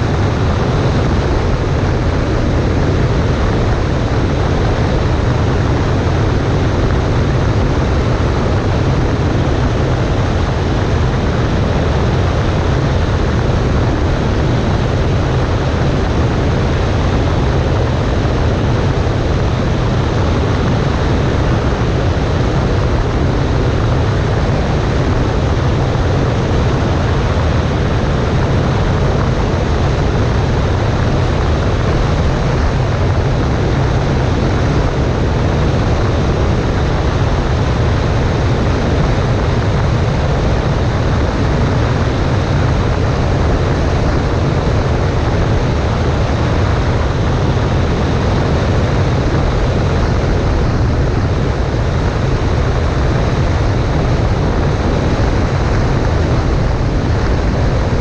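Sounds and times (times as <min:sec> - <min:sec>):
light aircraft engine drone: 0:00.0 - 0:58.0
rushing air: 0:00.0 - 0:58.0.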